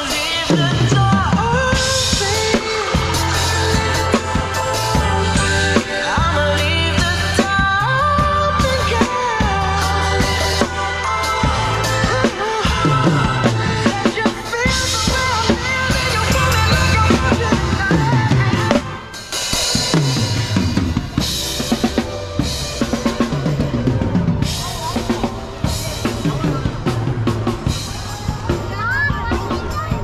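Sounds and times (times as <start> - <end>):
drum kit played live: 0.0 - 30.0
recorded music with sliding bass: 0.0 - 30.0.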